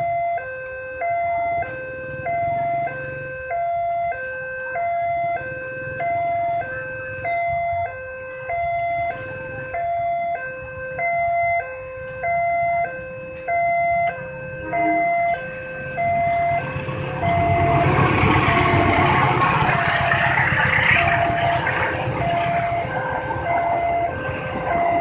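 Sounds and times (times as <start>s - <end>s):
level-crossing alarm two-tone: 0.0s - 25.0s
rail vehicle rumble: 0.0s - 25.0s.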